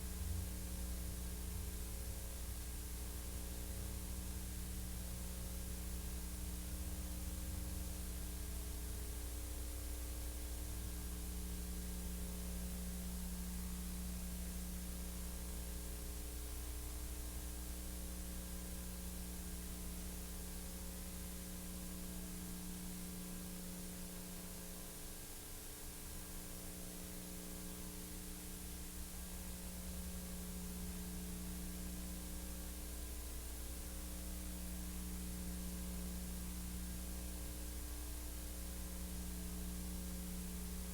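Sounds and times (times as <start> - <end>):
low mains hum: 0.0 - 40.9.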